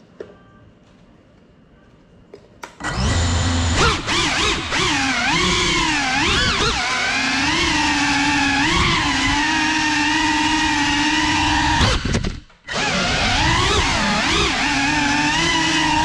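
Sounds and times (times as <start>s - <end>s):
drone motors whining: 2.8s - 16.0s.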